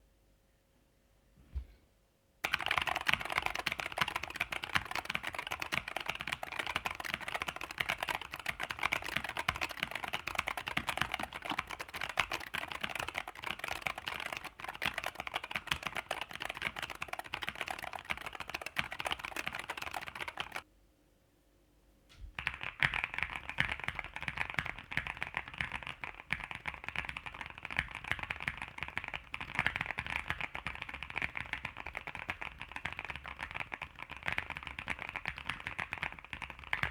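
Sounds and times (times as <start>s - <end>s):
fast typing on mechanical keyboard: 2.4s - 20.6s, 22.4s - 36.9s.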